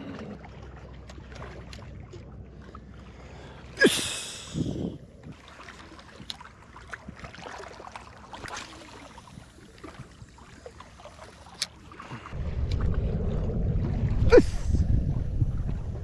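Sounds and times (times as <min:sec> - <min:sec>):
water noise: 0:00.0 - 0:16.0
light wind: 0:00.1 - 0:16.0.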